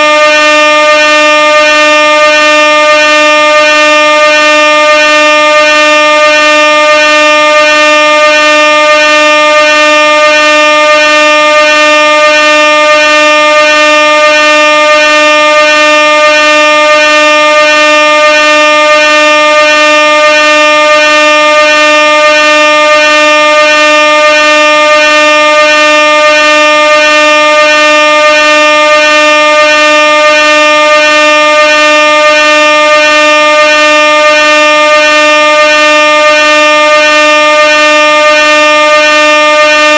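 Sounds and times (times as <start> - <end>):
air horn blast: 0.0 - 39.9.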